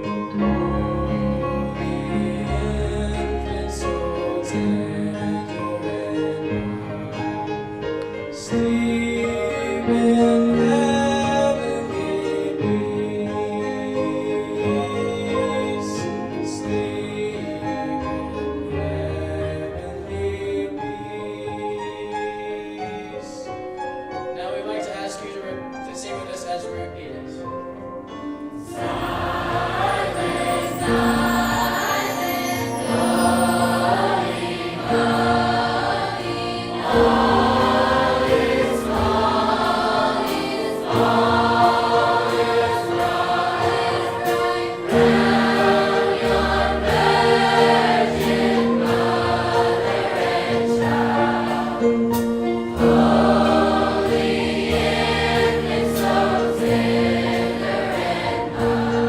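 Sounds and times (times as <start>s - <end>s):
large choir singing: 0.0s - 23.4s, 28.6s - 59.0s.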